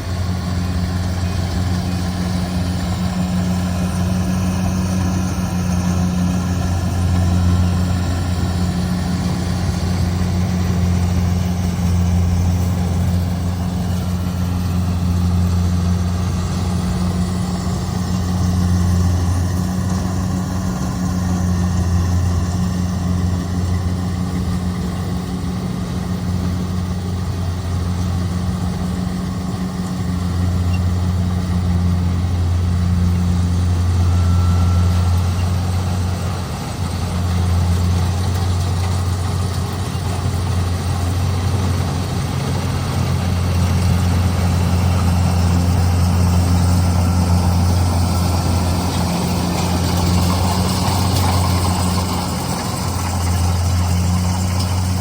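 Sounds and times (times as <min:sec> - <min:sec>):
combine harvester diesel engine: 0:00.0 - 0:55.0.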